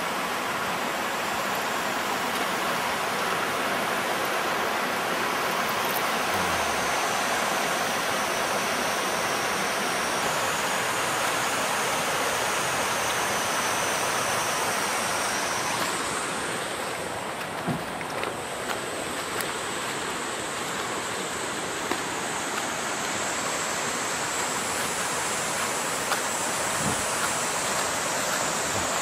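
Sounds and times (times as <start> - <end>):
river flowing over rocks: 0.0 - 29.0.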